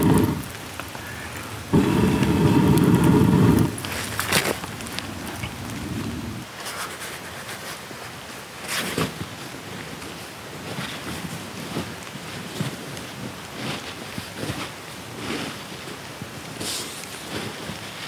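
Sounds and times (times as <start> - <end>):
heavy rain and wind on tent: 0.0 - 18.0.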